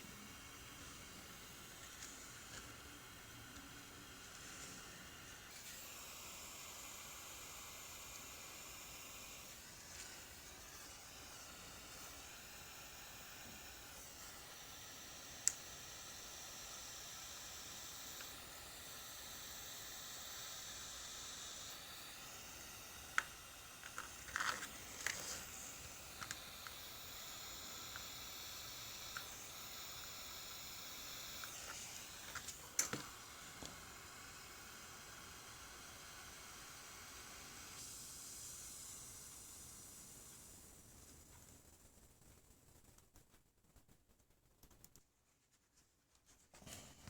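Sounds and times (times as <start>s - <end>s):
faint steady hiss: 0.0s - 47.0s.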